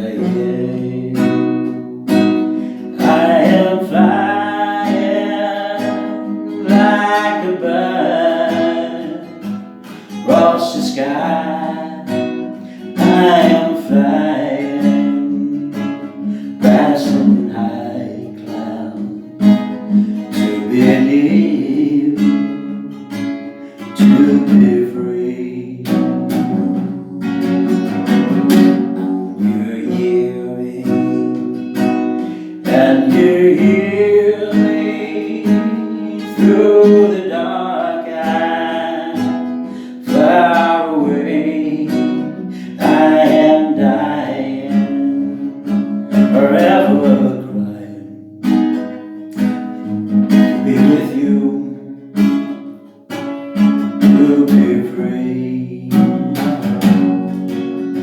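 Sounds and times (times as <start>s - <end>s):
person singing ballad: 0.0s - 48.4s, 50.3s - 52.7s, 53.8s - 57.3s
acoustic guitar strumming: 0.0s - 58.0s.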